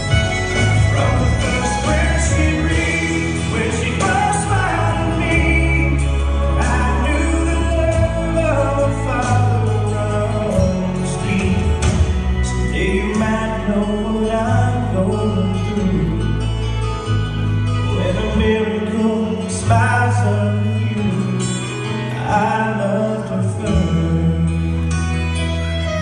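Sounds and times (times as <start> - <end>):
country ballad over loudspeakers: 0.0 - 26.0.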